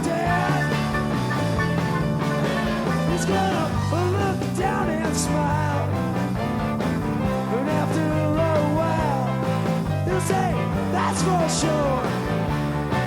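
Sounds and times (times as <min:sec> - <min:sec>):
rock band with singer: 0:00.0 - 0:13.0.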